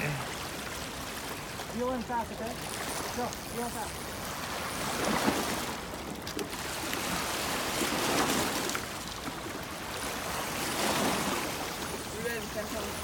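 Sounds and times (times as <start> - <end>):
water lapping against rocks: 0.0 - 13.0.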